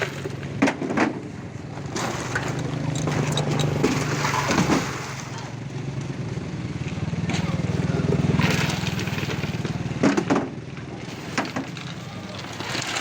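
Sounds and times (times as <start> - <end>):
sharp knocks and clatter: 0.0 - 5.5, 7.3 - 13.0
low engine-like hum: 0.0 - 13.0.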